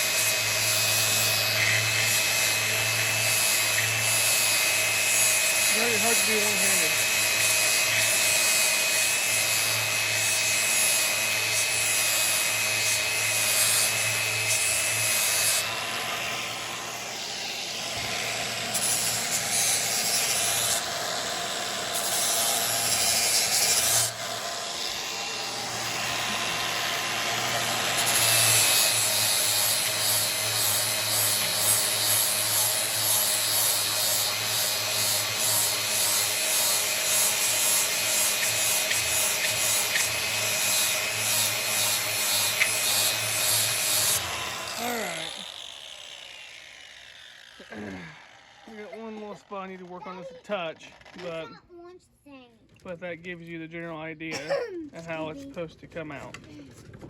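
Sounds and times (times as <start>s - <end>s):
electric grinder grinding metal blade: 0.0s - 51.5s.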